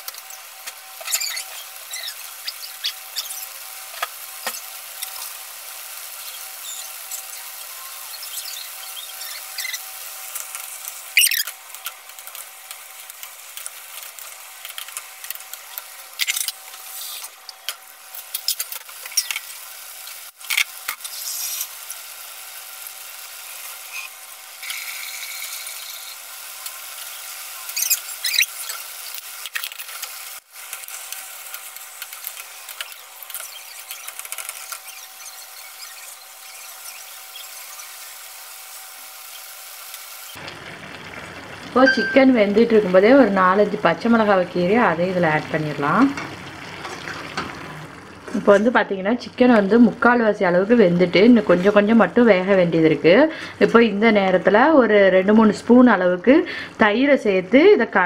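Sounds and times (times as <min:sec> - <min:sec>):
chicken sizzling in a pan: 0:00.0 - 0:48.7.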